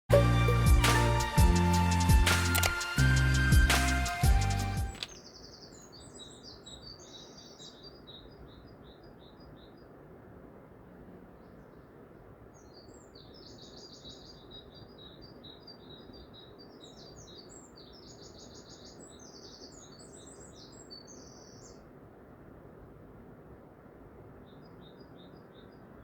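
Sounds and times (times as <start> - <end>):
low background noise: 4.9 - 26.0.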